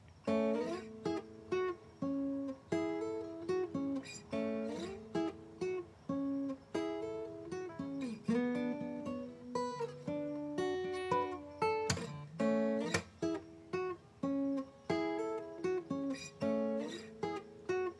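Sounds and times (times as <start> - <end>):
acoustic guitar instrumental: 0.0 - 17.9.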